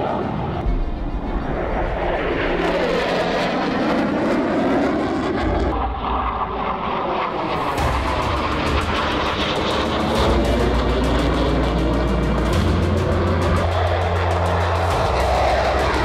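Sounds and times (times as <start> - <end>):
airplane flying past: 0.0 - 16.0.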